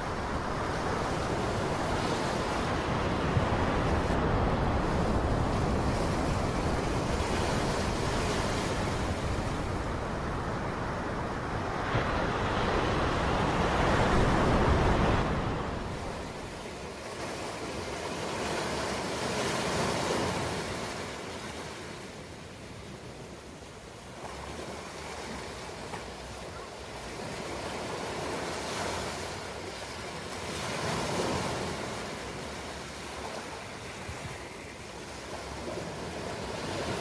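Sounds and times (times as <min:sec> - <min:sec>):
ocean waves washing: 0:00.0 - 0:37.0.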